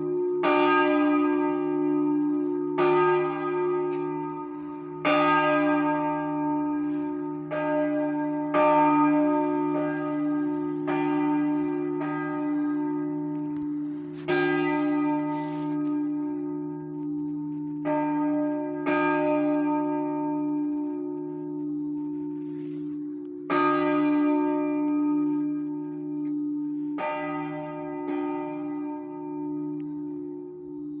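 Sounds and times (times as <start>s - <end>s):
church bell ringing: 0.0s - 31.0s.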